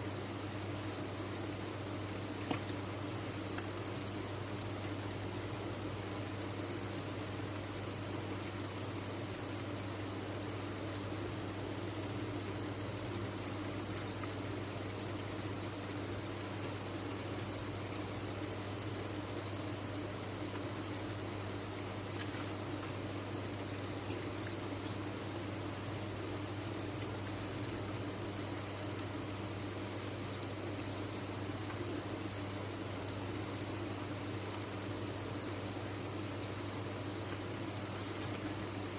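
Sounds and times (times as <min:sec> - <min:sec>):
crickets chirping in chorus: 0:00.0 - 0:38.9.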